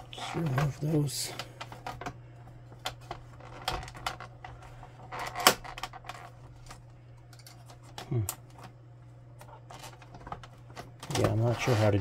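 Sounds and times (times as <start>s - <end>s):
plastic parts clicking and knocking: 0.2s - 8.7s, 9.4s - 11.4s.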